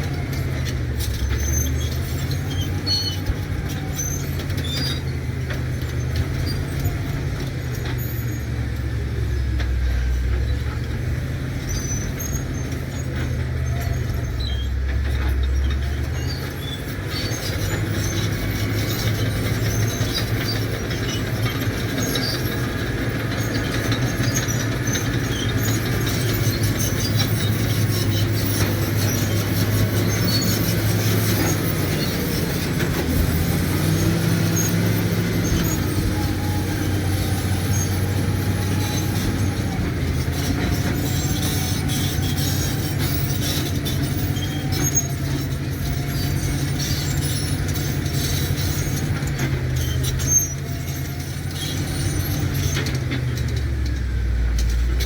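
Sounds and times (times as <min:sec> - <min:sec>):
bulldozer diesel engine running: 0:00.0 - 0:55.0
high squeaks and clinks: 0:00.4 - 0:10.8, 0:11.6 - 0:53.7.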